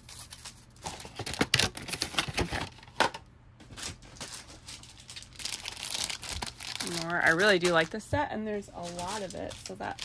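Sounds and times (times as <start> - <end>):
packaging crinkling: 0.0 - 3.0, 3.7 - 8.0, 8.8 - 10.0.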